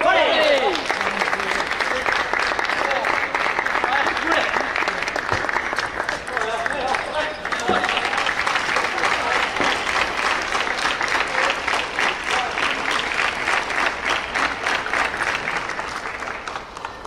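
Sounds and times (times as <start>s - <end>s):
spectators applauding: 0.0s - 17.0s.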